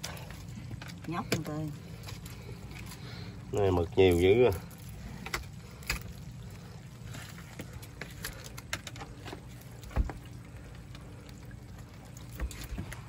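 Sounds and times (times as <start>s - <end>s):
boat engine hum: 0.0s - 13.0s.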